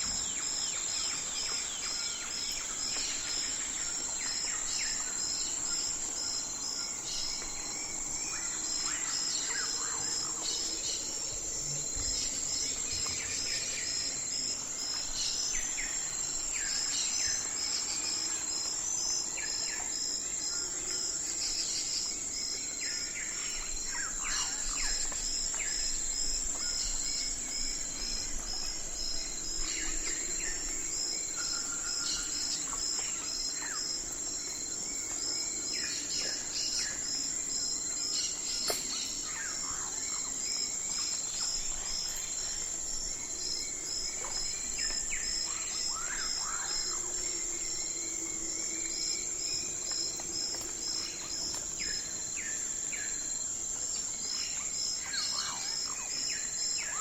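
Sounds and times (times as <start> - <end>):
crickets chirping: 0.0 - 57.0
high insect drone: 0.0 - 57.0.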